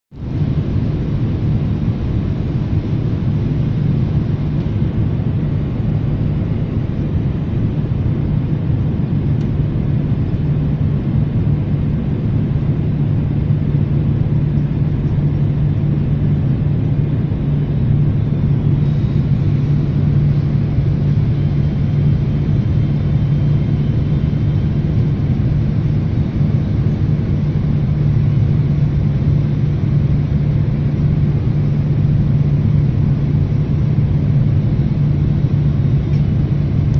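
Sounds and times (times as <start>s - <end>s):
low hum: 0.1s - 36.9s
jet engines droning: 0.2s - 36.9s.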